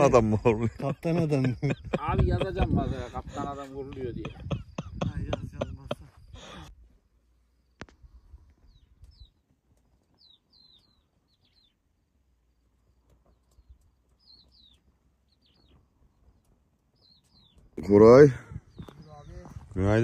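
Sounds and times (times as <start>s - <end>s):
songbird chirps: 0.0s - 20.0s.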